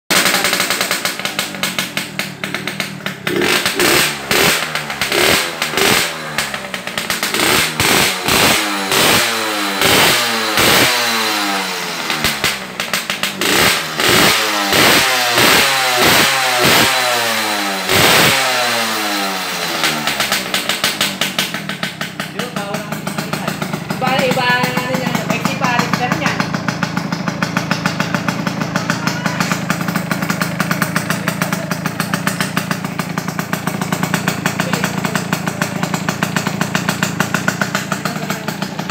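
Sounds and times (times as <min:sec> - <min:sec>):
two-stroke motorcycle engine revving: 0:00.1 - 0:38.9.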